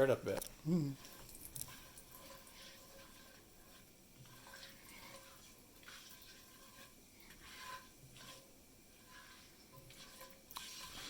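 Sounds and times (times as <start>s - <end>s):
spatula scraping in pan: 0.0s - 11.0s.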